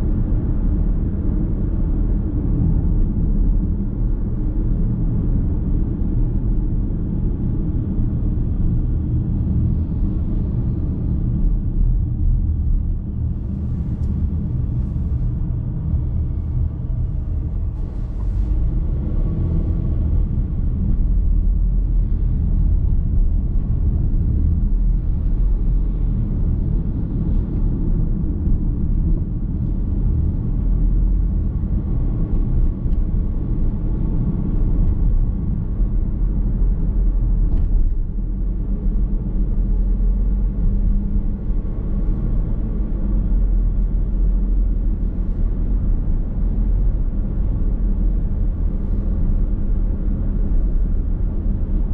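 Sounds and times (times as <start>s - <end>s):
car road and tyre rumble: 0.0s - 51.9s.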